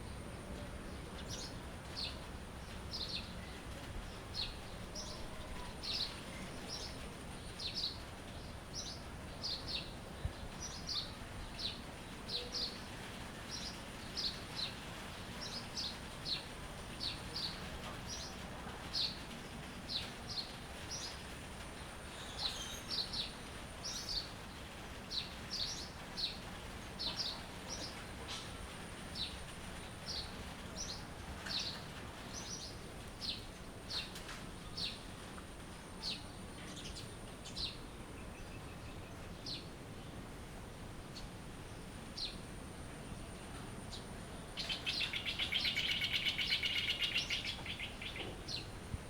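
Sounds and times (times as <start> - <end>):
faint steady hiss: 0.0 - 49.0
songbirds chirping: 0.0 - 49.0.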